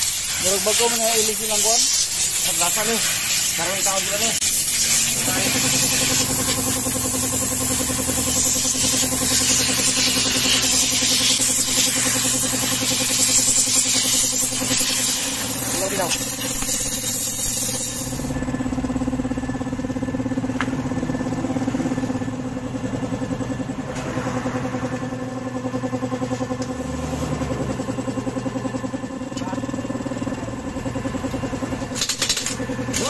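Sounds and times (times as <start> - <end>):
small engine idling: 0.1 - 33.0.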